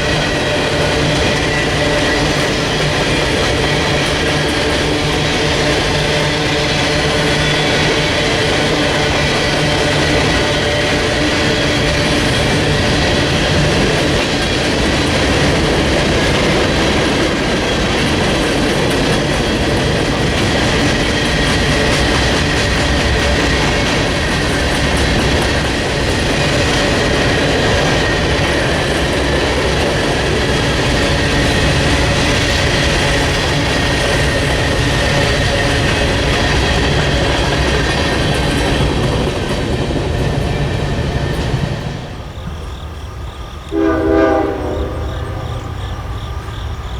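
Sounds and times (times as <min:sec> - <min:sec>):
steel wheels rumbling on rail: 0:00.0 - 0:46.9.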